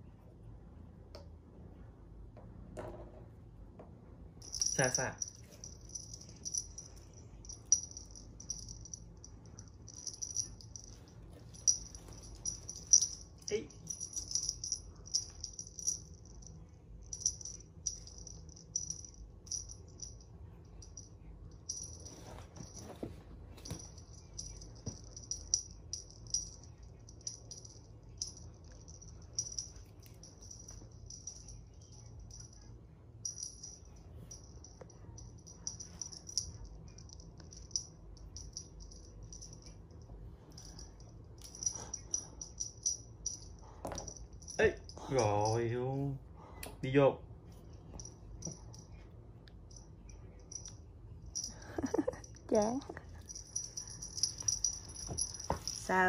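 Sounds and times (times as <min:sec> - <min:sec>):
small bell jingling: 0:04.4 - 0:45.7, 0:47.9 - 0:49.0, 0:49.7 - 0:56.0.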